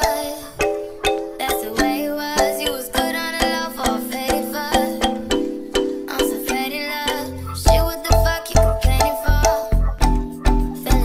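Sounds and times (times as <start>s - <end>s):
bright melody over steady beat: 0.0s - 11.0s.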